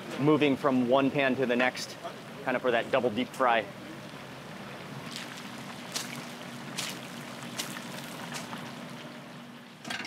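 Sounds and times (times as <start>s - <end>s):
oil sizzling and bubbling: 1.4s - 10.0s.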